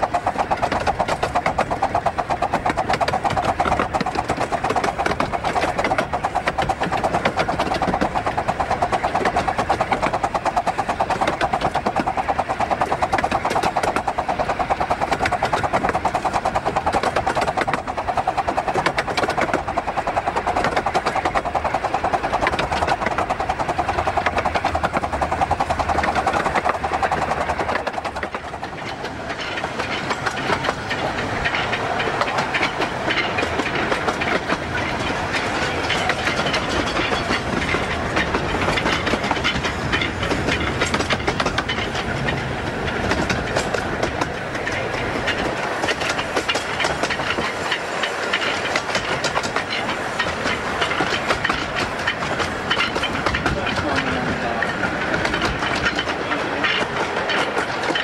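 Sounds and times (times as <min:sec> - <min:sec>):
coach rattling: 0:00.0 - 0:58.0
train wheels clattering over rail joints: 0:00.0 - 0:58.0.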